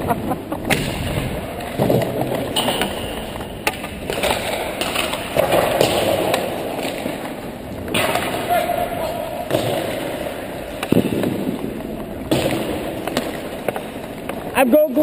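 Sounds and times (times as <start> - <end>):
skates scraping on ice: 0.1 - 15.0.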